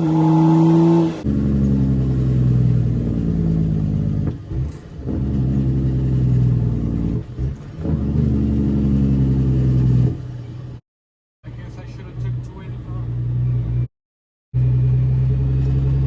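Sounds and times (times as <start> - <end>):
diesel truck engine under load: 0.0 - 10.8, 11.5 - 13.9, 14.6 - 16.0.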